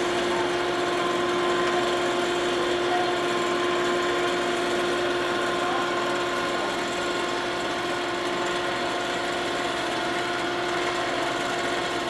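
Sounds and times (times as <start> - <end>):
model turntable motor humming: 0.0 - 12.0.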